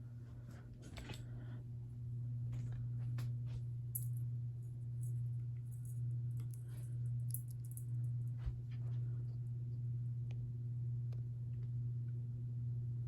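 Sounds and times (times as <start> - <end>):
ceiling fan motor hum: 0.0 - 13.0.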